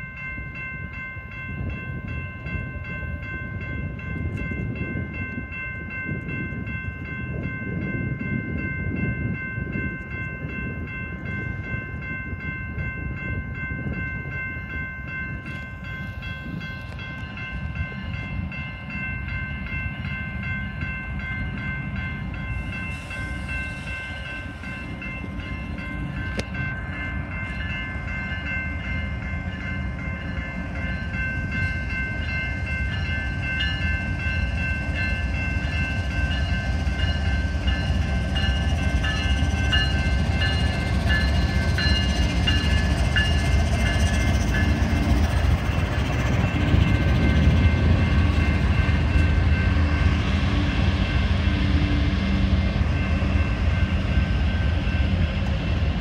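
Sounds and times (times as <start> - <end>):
crossing warning bell ringing: 0.0 - 56.0
diesel locomotive rumble: 0.0 - 56.0
train wheel noise: 0.0 - 56.0.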